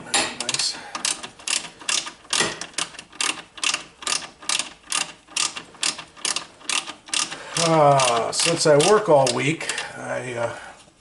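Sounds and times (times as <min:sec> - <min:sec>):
ratchet wrench clicking: 0:01.0 - 0:09.8.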